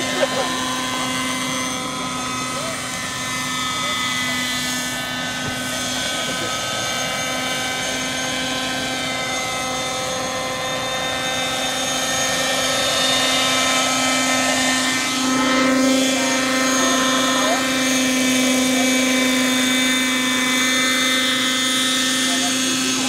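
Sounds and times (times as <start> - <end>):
model helicopter engine and rotors: 0.0 - 23.0.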